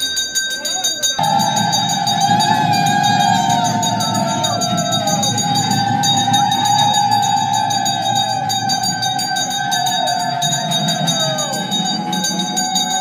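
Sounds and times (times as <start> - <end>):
bells ringing: 0.0 - 13.0
low crowd murmur: 0.0 - 13.0.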